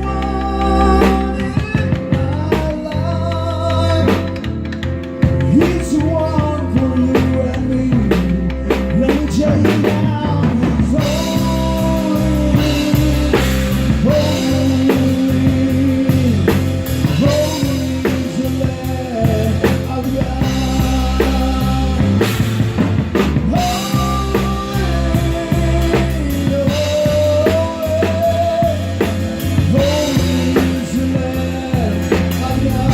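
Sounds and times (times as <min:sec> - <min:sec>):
person singing: 0:00.0 - 0:32.9
rock band playing: 0:00.0 - 0:32.9.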